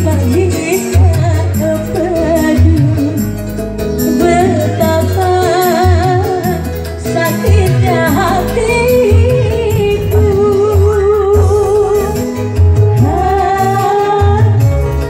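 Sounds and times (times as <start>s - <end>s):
electronic keyboard with steady beat: 0.0s - 15.0s
woman singing into a microphone: 0.0s - 15.0s.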